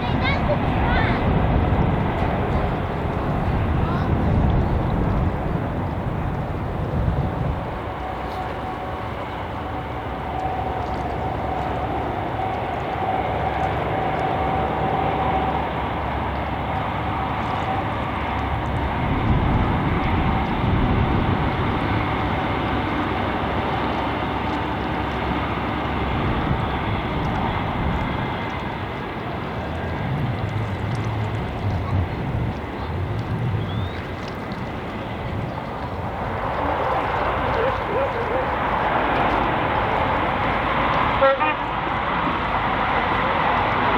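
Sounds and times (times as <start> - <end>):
diesel train rumbling past: 0.0 - 43.9.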